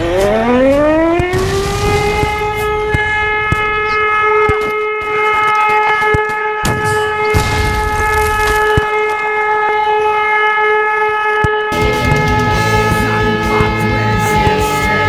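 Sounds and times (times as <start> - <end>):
air-raid siren: 0.0 - 15.0.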